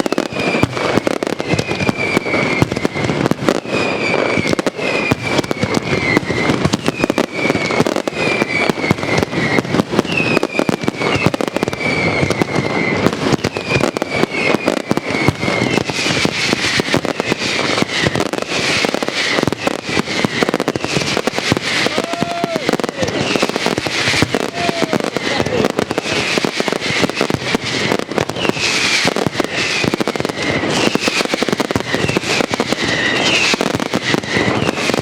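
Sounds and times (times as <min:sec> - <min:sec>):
fireworks crackling bangs: 0:00.0 - 0:35.0
fireworks falling whistles: 0:00.0 - 0:35.0.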